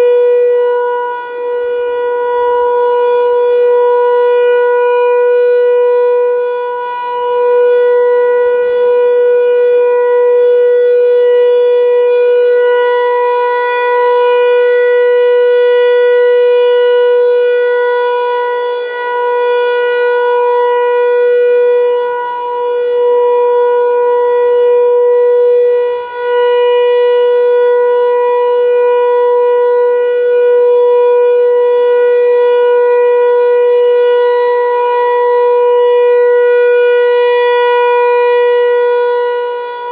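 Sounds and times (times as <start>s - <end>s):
rotating mechanical siren: 0.0s - 39.9s.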